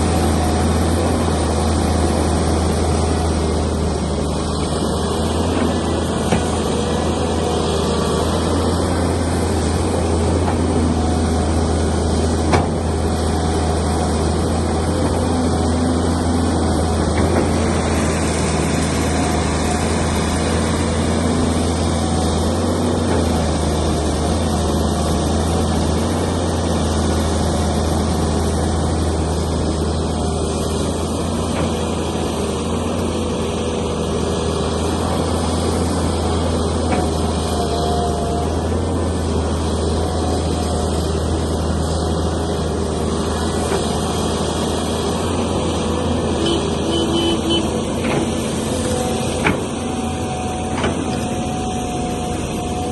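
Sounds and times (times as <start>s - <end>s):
heavy machinery engine running: 0.0s - 52.9s.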